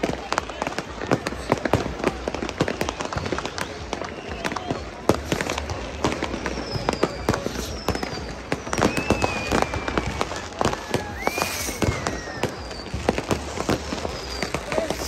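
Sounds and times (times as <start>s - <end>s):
firecrackers banging: 0.0s - 15.0s
whistling rockets: 0.0s - 15.0s.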